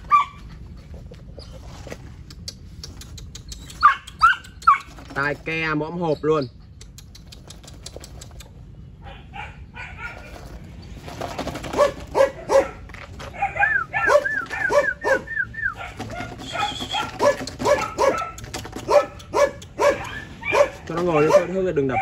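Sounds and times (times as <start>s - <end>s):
puppies yipping and barking: 0.0s - 1.7s, 2.3s - 5.2s, 6.8s - 22.0s.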